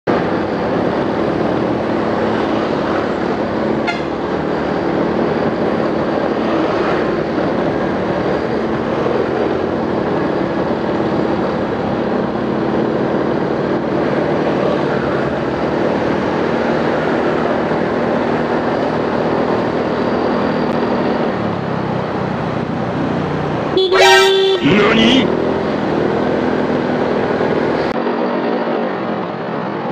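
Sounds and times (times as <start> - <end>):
wind and road noise: 0.0 - 29.9.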